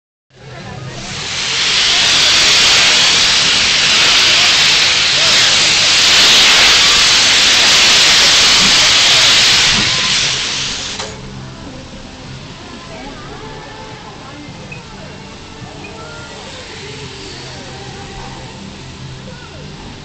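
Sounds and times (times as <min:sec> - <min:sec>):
steam locomotive hissing: 0:00.6 - 0:20.0.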